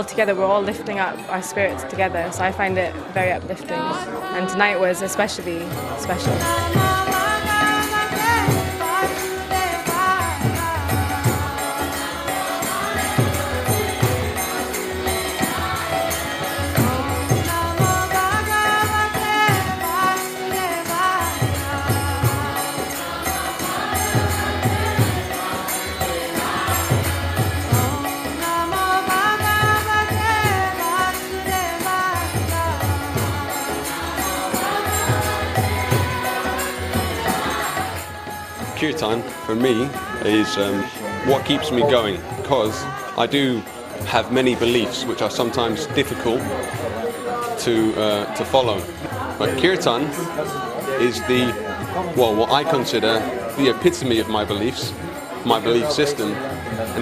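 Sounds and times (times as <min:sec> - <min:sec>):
group singing devotional chant: 0:00.0 - 0:57.0
jingling hand percussion: 0:00.0 - 0:57.0.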